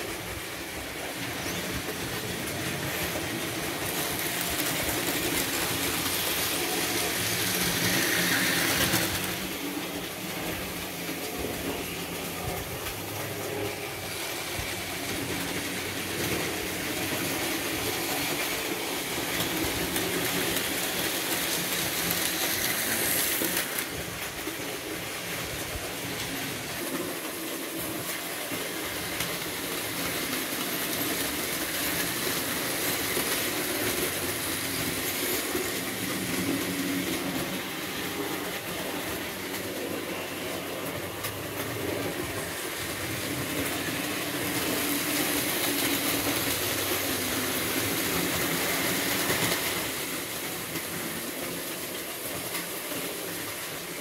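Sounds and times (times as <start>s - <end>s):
model trains clattering on track: 0.0s - 54.0s.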